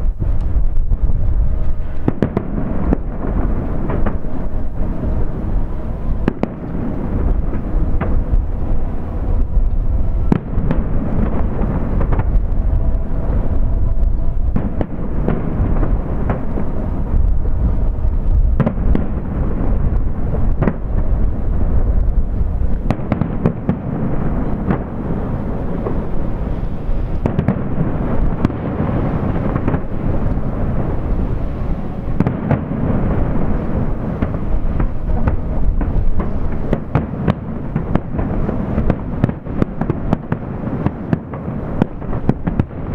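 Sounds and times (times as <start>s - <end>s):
low rumble: 0.0s - 40.0s.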